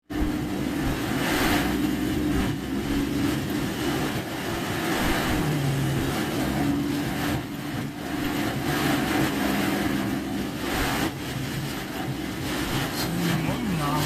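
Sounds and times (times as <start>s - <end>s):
car engine running: 0.0s - 14.0s
road and tyre noise: 0.0s - 14.0s.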